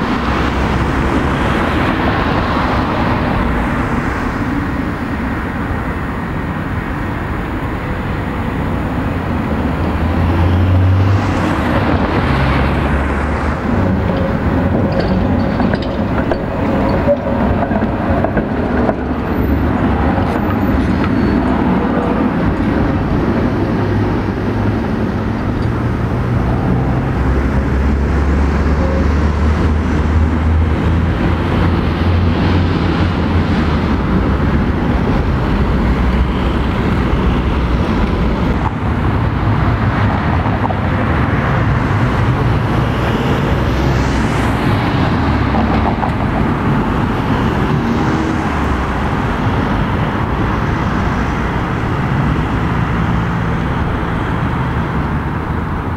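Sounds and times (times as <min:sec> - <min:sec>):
cars passing: 0:00.0 - 0:55.9
low engine drone: 0:00.0 - 0:55.9
trams passing: 0:00.0 - 0:55.9.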